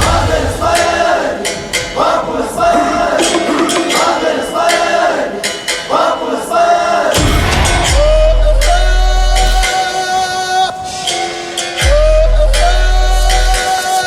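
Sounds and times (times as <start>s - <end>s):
music with chanted vocals: 0.0s - 14.0s.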